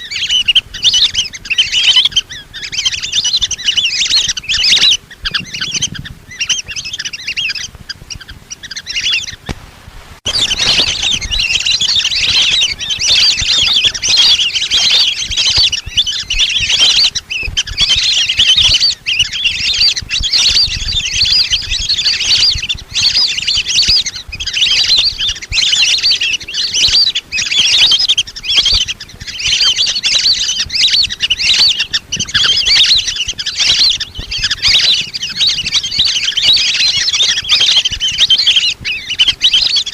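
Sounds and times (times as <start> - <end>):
ducks whistling calls: 0.0 - 9.6, 10.2 - 39.9.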